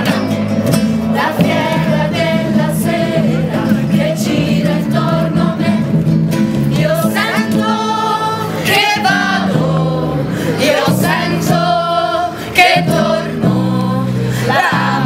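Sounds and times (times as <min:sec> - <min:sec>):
acoustic guitar: 0:00.0 - 0:15.0
people singing together: 0:00.0 - 0:15.0.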